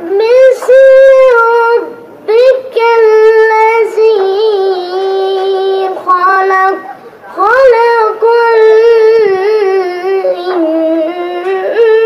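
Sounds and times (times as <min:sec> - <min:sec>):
boy chanting recitation: 0:00.0 - 0:12.0.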